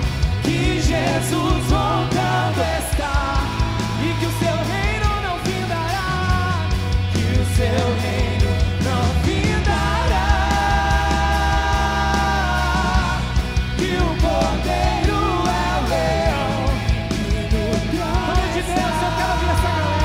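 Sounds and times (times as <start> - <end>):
person singing: 0.0 - 20.0
rock band playing: 0.0 - 20.0.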